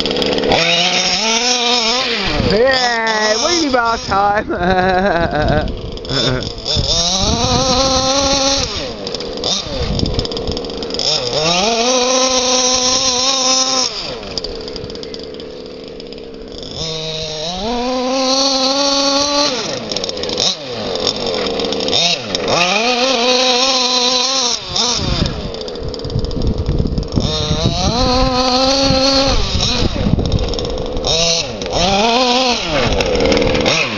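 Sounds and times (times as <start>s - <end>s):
two-stroke engine revving: 0.0s - 33.9s.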